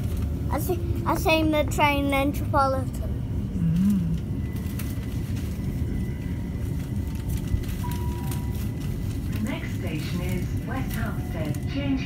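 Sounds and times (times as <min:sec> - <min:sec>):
train rumble and rattle: 0:00.0 - 0:12.0.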